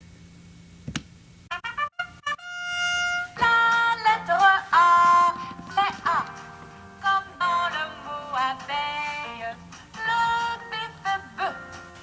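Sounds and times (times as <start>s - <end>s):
bright melody with sliding notes: 1.5s - 12.0s.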